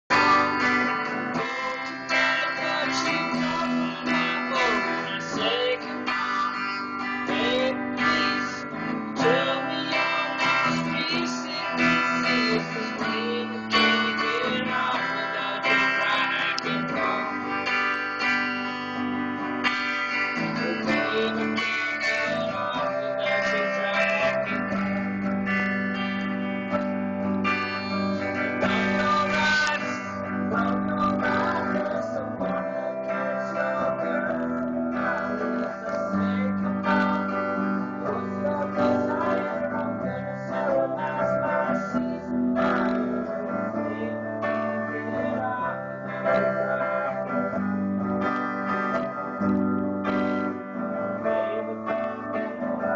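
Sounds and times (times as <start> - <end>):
guitar strummed and plucked: 0.0 - 52.9.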